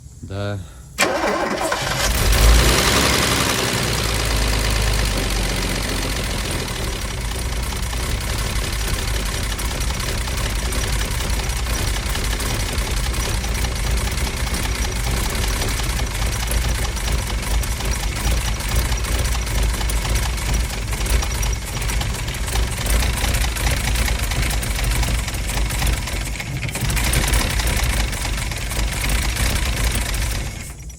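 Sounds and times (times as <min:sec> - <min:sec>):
car engine idling roughly: 0:01.0 - 0:30.9.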